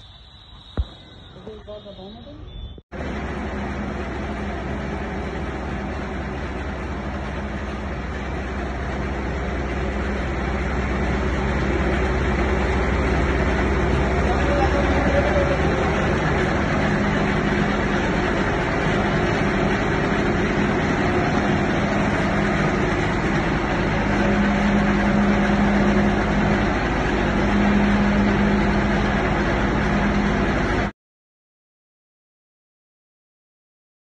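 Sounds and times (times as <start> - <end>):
grinding machine running: 0.0 - 30.9.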